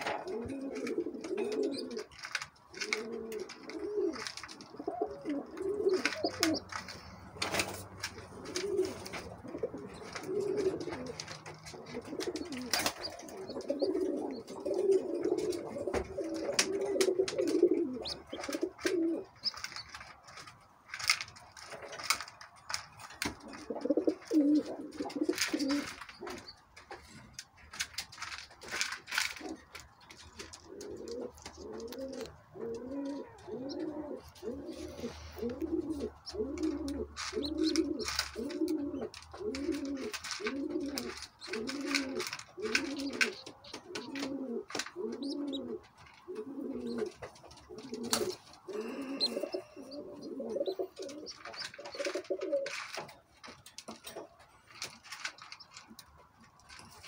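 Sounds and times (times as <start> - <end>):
pigeon cooing: 0.0 - 20.0, 23.4 - 26.6, 30.4 - 53.1.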